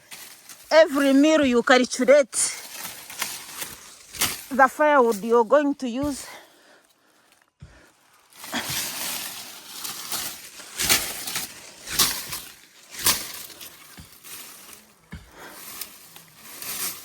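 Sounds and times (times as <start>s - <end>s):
dry sticks crackling and rustling: 0.0s - 17.0s.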